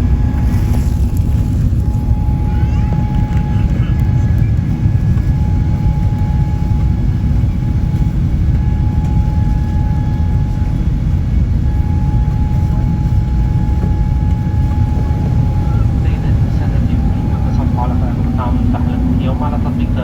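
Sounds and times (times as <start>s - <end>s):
aircraft cabin rumble: 0.0s - 20.0s
thin steady whine: 0.0s - 20.0s.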